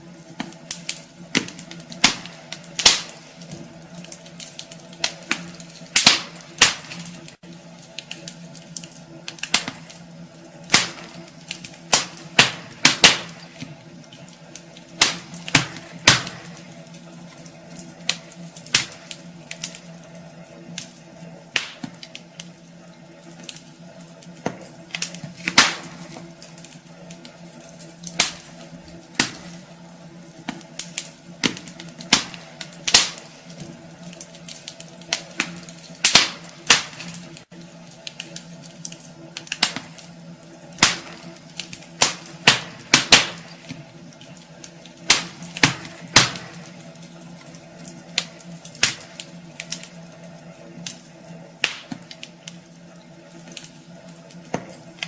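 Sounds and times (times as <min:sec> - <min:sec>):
fire pops and snaps: 0:00.0 - 0:55.0
steady low hum: 0:00.0 - 0:55.0
wood fire crackling: 0:00.0 - 0:55.0.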